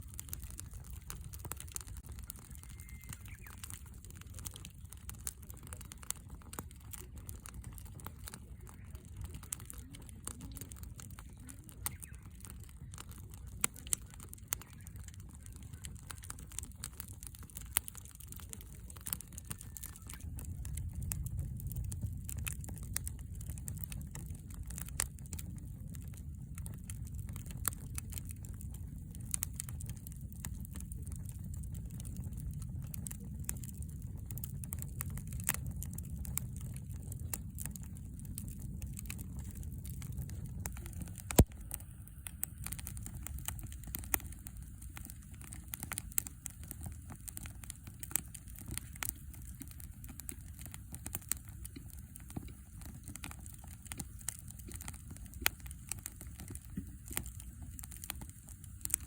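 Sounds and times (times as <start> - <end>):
steady low rumble: 0.0 - 59.0
wood fire crackling and popping: 0.0 - 59.0.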